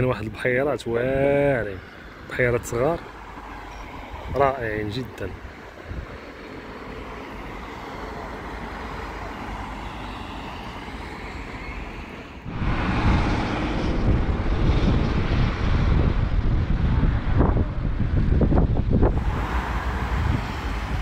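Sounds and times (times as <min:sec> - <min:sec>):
steady rushing outdoor noise: 0:00.0 - 0:21.0
gusty wind buffeting microphone: 0:01.1 - 0:09.8, 0:10.4 - 0:21.0.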